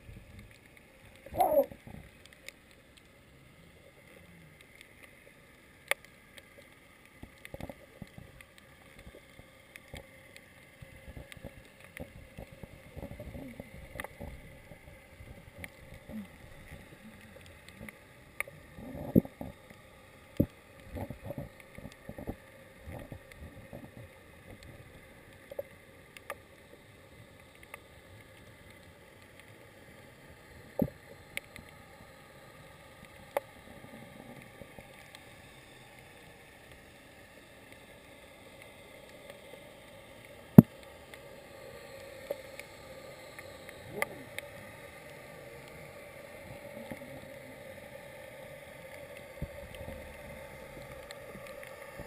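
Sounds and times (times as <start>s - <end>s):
muffled underwater hiss: 0.0s - 52.0s.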